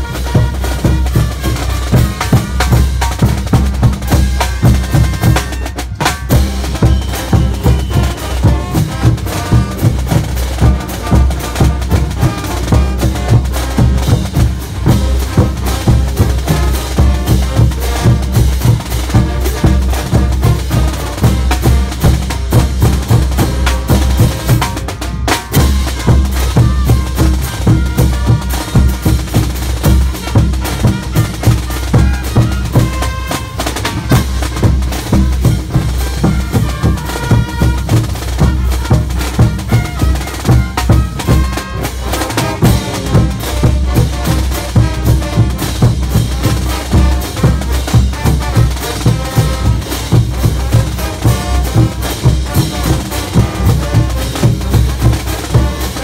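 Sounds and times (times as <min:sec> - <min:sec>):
bass drums: 0:00.0 - 0:56.0
brass band playing: 0:00.0 - 0:56.0
snare drum: 0:00.0 - 0:56.0
trumpets: 0:00.0 - 0:56.0.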